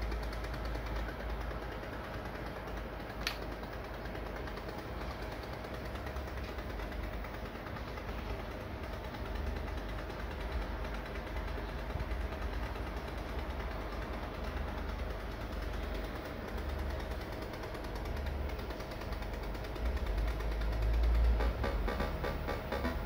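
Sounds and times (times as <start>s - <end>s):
fast mechanical ticking: 0.0s - 23.0s
floppy drive motor hum: 0.0s - 23.0s.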